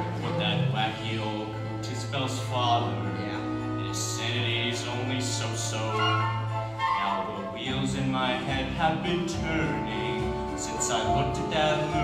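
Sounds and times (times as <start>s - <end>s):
bass notes: 0.0s - 12.0s
musical theatre accompaniment: 0.0s - 12.0s.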